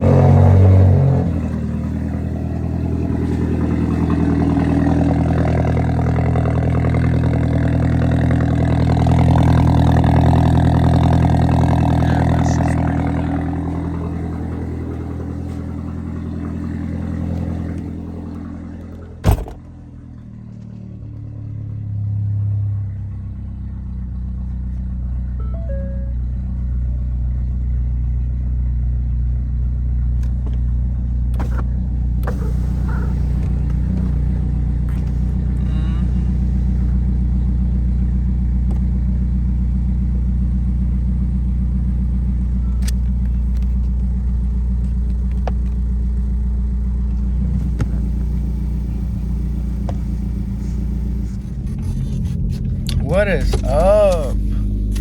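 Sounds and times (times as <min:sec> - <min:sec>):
car engine droning through exhaust: 0:00.0 - 0:55.0.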